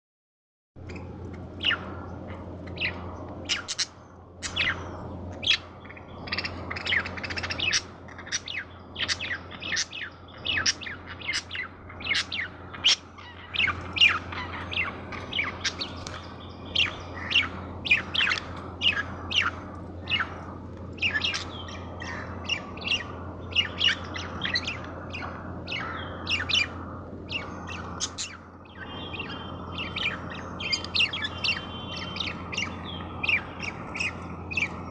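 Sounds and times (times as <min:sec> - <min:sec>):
baby bird chirping: 0:00.8 - 0:34.9.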